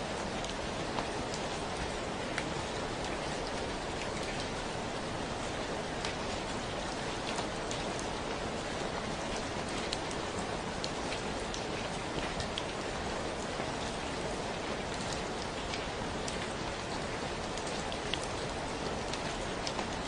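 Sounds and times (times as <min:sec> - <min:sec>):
raindrops ticking on surface: 0:00.0 - 0:20.0.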